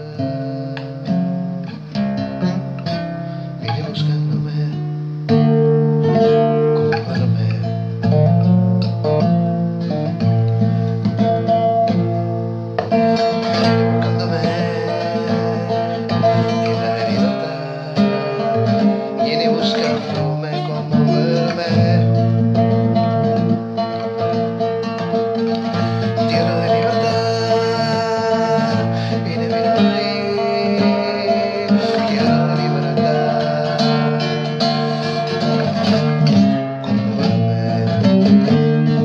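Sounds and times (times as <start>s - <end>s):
classical guitar plucked chords: 0.0s - 39.0s.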